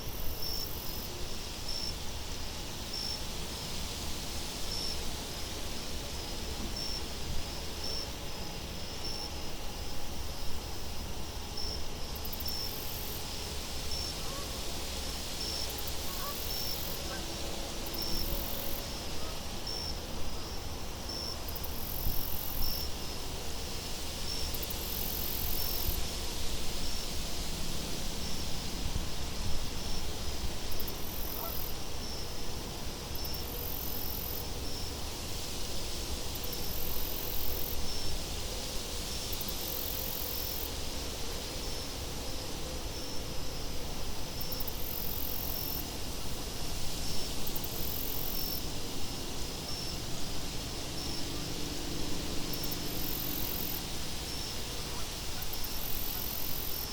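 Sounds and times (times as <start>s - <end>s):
crickets chirping: 0.0s - 56.9s
high insect trills: 0.0s - 56.9s.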